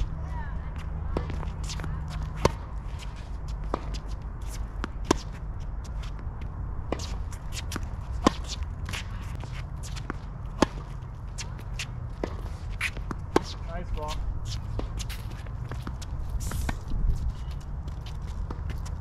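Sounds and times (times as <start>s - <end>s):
shuffling footsteps: 0.0s - 19.0s
steady low rumble: 0.0s - 19.0s
tennis balls struck by racquets: 0.8s - 17.4s.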